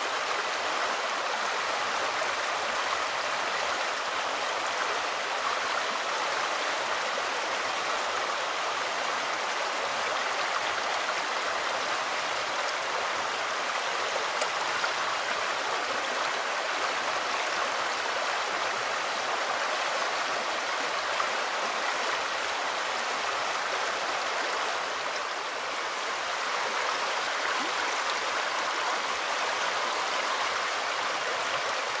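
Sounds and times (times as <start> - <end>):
river water running: 0.0 - 32.0.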